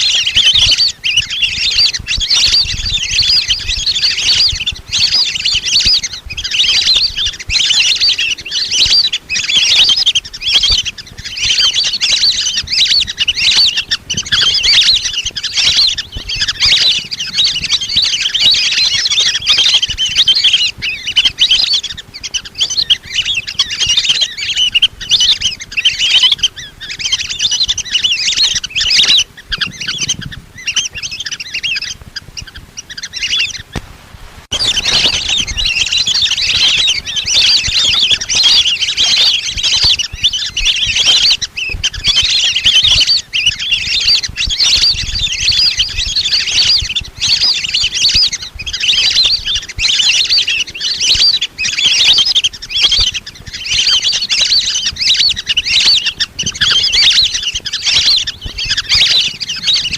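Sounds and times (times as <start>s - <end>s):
ducks whistling calls: 0.0s - 33.9s, 34.5s - 59.9s.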